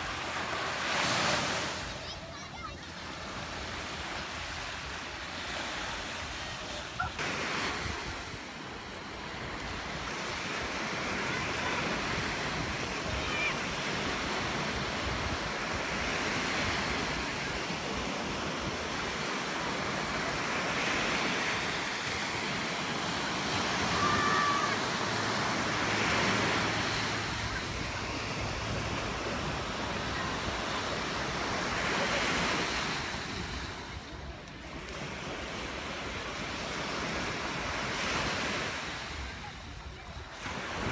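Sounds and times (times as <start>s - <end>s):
small waves breaking on beach: 0.0s - 40.9s.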